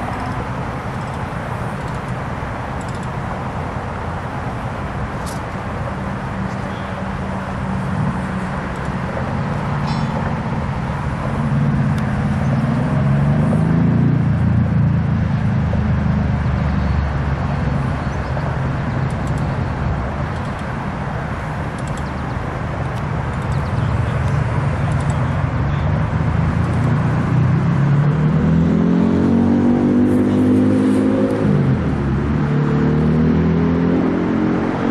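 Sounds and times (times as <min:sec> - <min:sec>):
motor engine droning and revving: 0:06.2 - 0:34.9.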